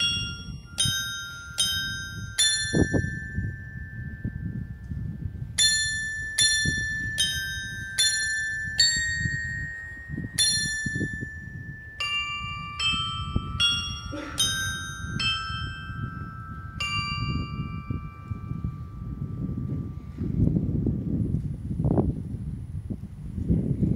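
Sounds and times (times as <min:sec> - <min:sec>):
carillon bells playing slow melody: 0:00.0 - 0:21.0.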